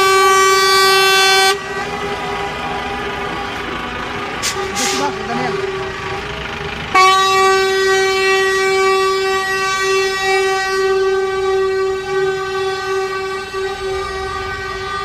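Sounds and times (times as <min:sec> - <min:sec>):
truck horn blast: 0:00.0 - 0:15.0.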